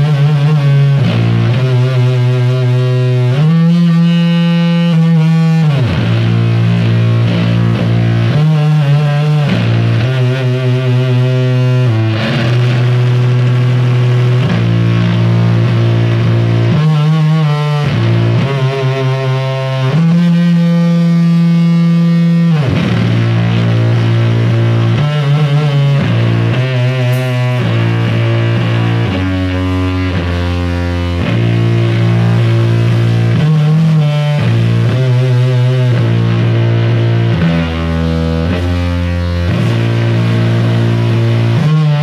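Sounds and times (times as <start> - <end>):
distorted electric guitar droning: 0.0 - 42.0.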